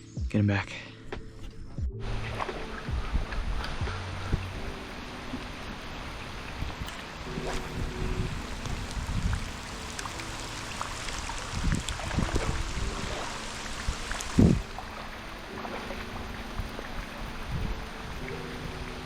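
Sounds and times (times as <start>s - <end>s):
water splashing and sloshing: 1.4s - 19.0s
rain hiss: 2.0s - 19.0s.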